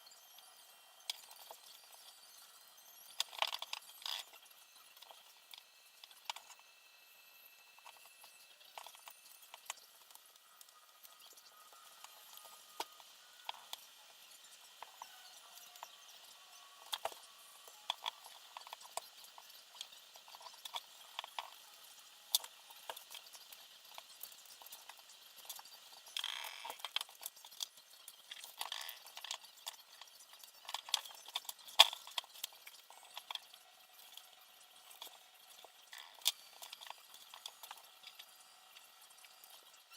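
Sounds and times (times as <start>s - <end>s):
small hard parts clicking: 0.9s - 6.7s, 7.4s - 39.9s.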